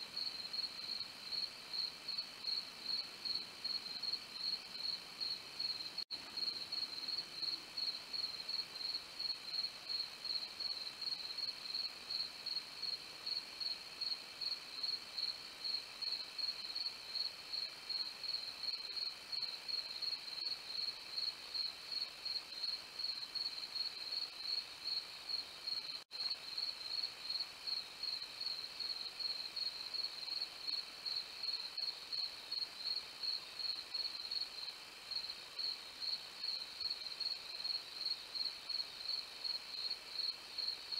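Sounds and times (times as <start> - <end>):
crickets chirping: 0.2 - 40.9
faint insect trill: 0.2 - 40.9.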